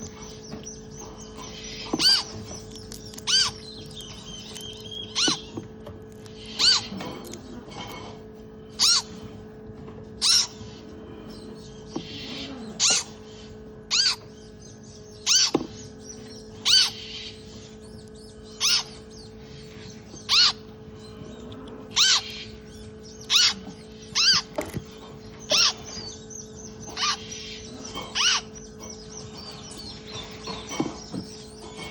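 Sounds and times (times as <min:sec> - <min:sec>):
parrot hatchling peeping: 0:00.0 - 0:31.9
steady hum: 0:00.0 - 0:31.9.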